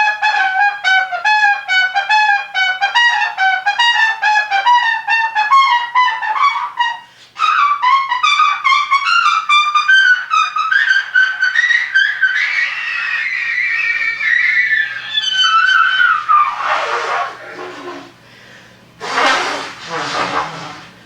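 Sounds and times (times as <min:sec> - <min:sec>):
solo instrument playing fast notes: 0:00.0 - 0:18.3.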